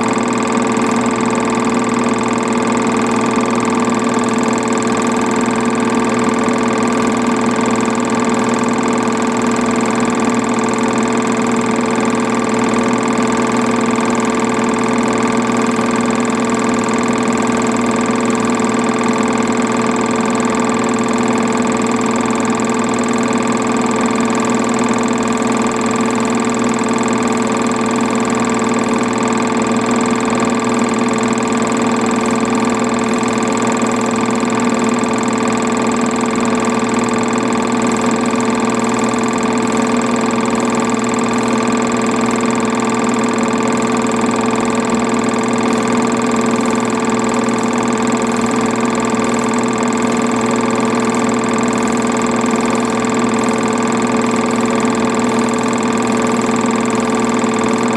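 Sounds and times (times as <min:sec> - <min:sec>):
film projector humming: 0:00.0 - 0:57.9.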